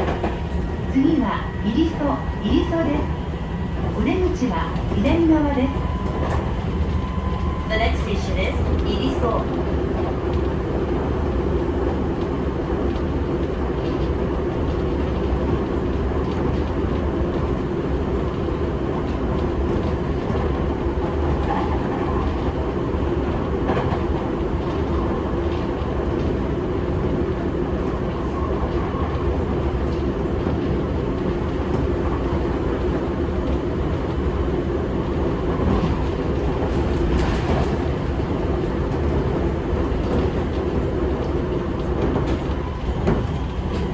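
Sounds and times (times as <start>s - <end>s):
rail joint clicks: 0.0s - 43.9s
train wheels rumbling on rails: 0.0s - 43.9s.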